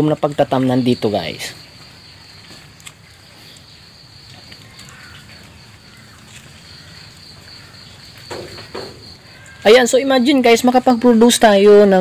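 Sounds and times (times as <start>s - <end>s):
faint outdoor background noise: 0.0s - 12.0s
high-pitched insect trill: 0.0s - 12.0s.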